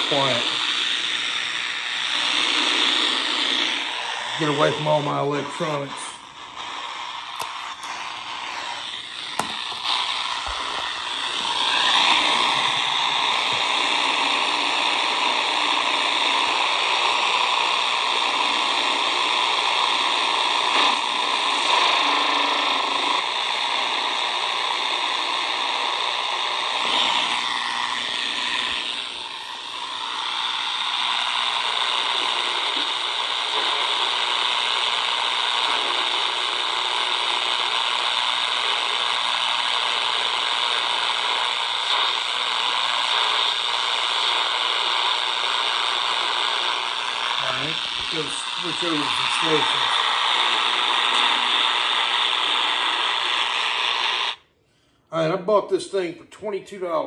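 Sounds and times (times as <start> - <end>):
radio static hiss: 0.0 - 54.5
radio tuning whistles: 0.0 - 55.4.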